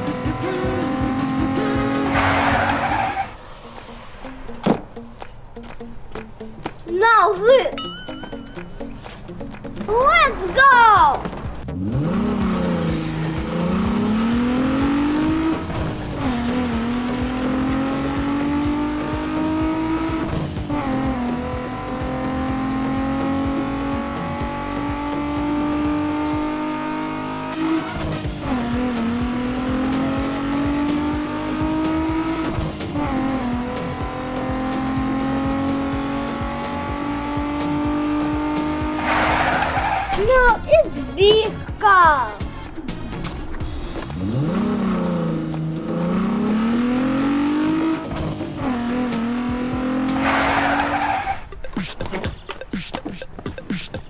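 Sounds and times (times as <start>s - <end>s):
car engine accelerating: 0.0s - 6.9s, 11.2s - 54.0s.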